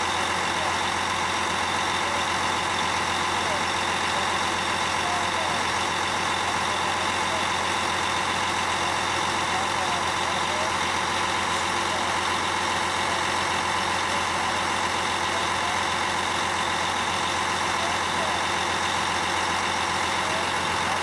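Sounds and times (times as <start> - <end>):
diesel engine running steadily: 0.0 - 21.0.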